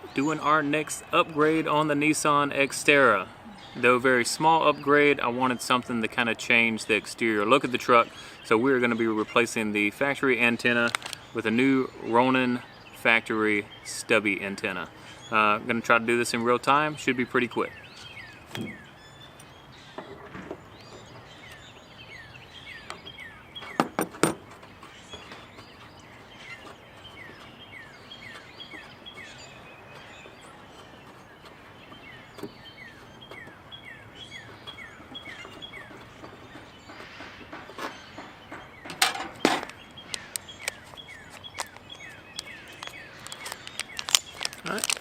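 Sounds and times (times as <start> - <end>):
bird chirping: 0.0 - 45.0.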